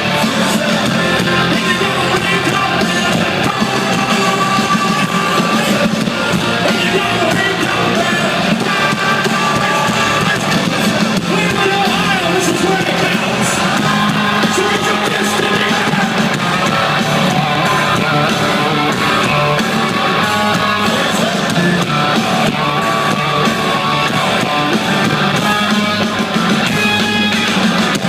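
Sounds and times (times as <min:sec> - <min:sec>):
live hard rock band: 0:00.0 - 0:28.0.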